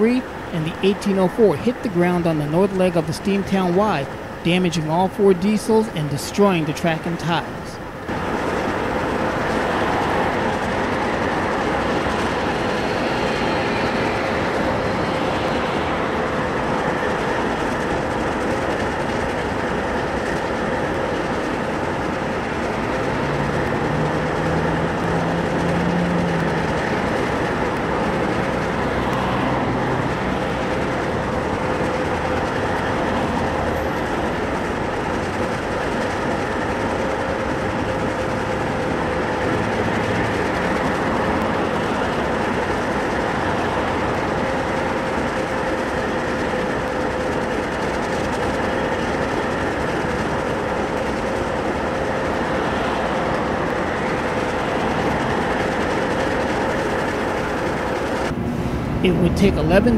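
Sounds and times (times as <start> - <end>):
diesel locomotive running: 0.0 - 59.9.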